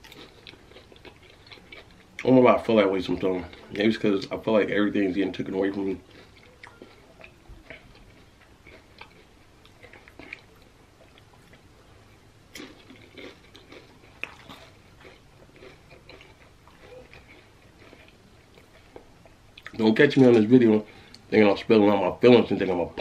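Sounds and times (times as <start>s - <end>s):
person chewing crunchy chips: 0.0s - 20.4s.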